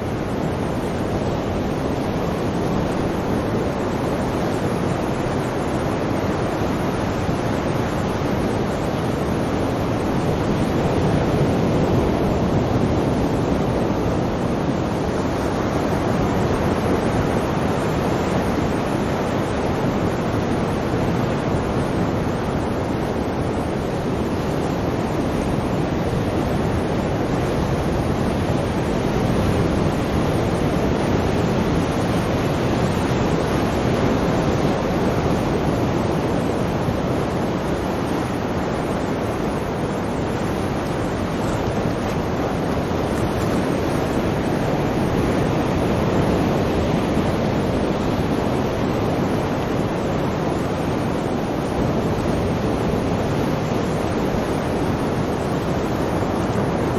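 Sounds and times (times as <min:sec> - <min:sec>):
sea waves washing in: 0:00.0 - 0:56.9.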